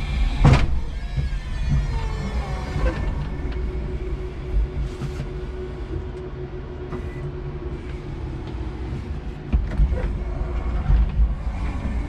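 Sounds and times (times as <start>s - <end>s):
electric forklift humming: 0.0s - 12.0s.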